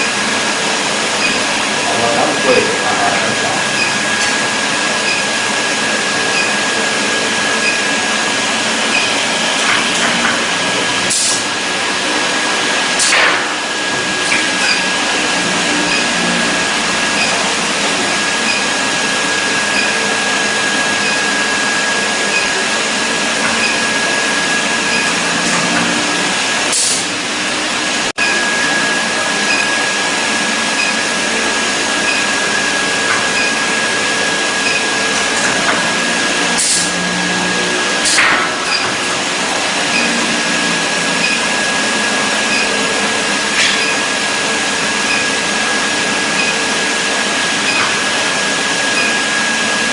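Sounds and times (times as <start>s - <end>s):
brazing equipment hiss and whine: 0.0s - 49.9s.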